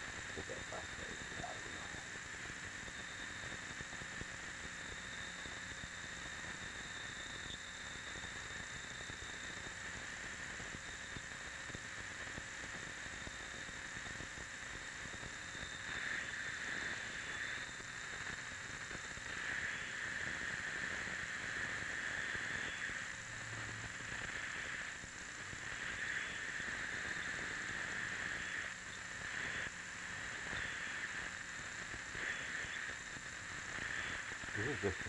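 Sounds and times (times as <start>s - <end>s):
hissing electronic noise: 0.0s - 35.0s.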